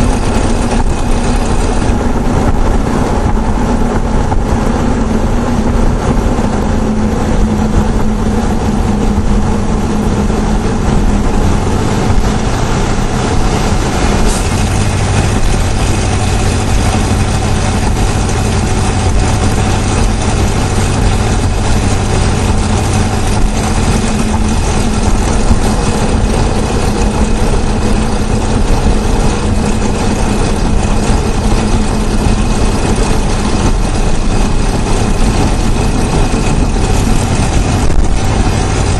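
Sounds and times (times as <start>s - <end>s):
deep drone: 0.0s - 38.9s
engine running with chatter: 0.0s - 38.9s.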